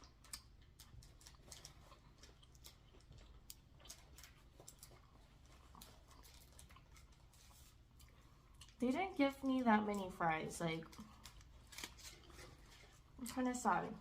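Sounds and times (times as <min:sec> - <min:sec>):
quiet low hum: 0:00.0 - 0:14.0.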